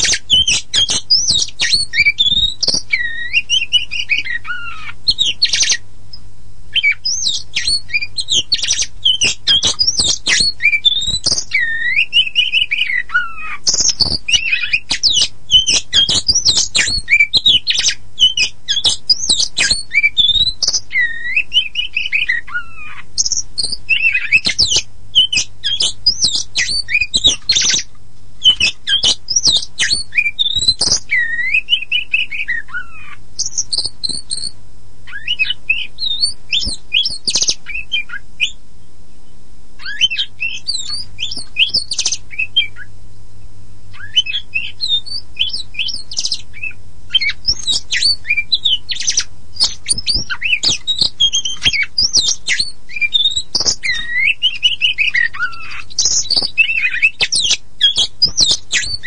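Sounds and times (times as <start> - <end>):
songbird whistling and chattering: 0.0 - 38.6, 39.8 - 42.9, 43.9 - 59.0.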